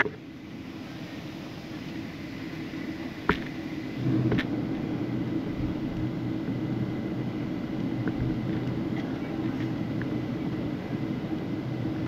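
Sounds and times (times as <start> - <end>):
faint high whine: 0.0 - 12.0
vehicle interior rumble: 0.0 - 12.0.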